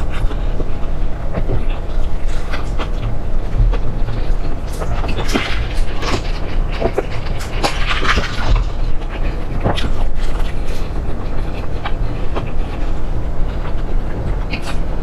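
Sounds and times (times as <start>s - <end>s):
chewing and crunching: 0.0s - 15.0s
steady low rumble: 0.0s - 15.0s.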